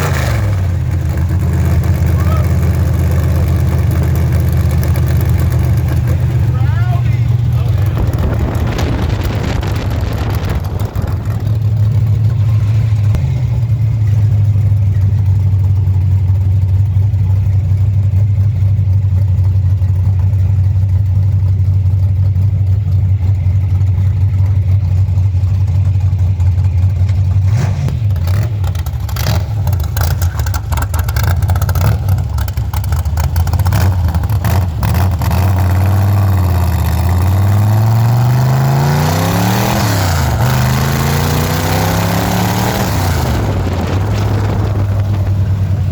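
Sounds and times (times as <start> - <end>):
car engine running: 0.0 - 45.9
sharp engine crackles: 0.0 - 45.9.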